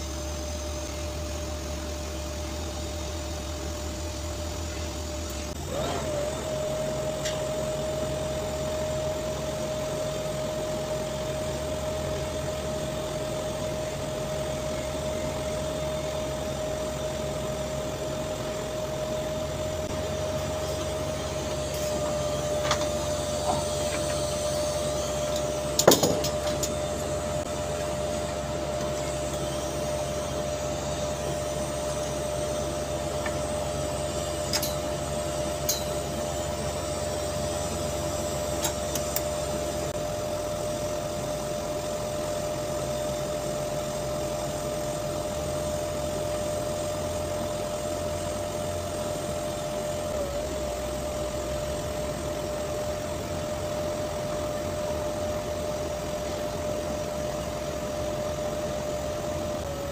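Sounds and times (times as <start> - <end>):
low drone of machinery: 0.0 - 59.9
welding arc humming: 0.0 - 59.9.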